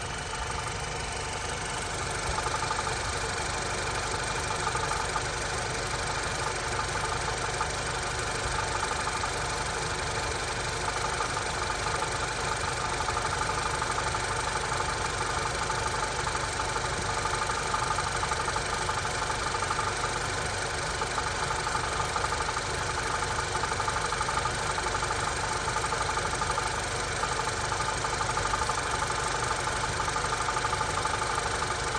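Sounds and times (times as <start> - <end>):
car engine idling: 0.0 - 31.9
engine knocking: 0.0 - 31.9.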